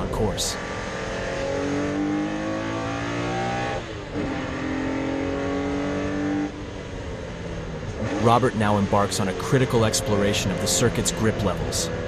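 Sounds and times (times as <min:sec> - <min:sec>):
race car engine accelerating: 0:00.4 - 0:07.0, 0:07.8 - 0:12.0.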